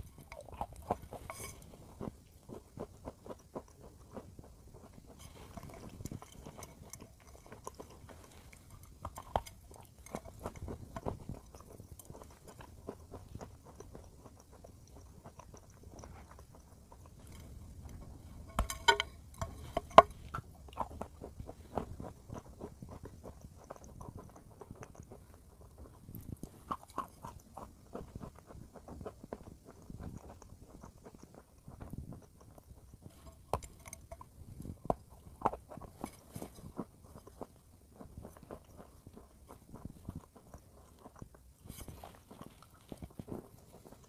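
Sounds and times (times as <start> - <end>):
person crunching and chewing chalk: 0.0 - 44.0.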